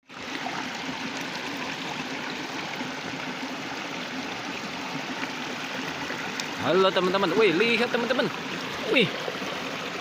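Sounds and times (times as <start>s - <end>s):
stream water running: 0.0s - 10.0s.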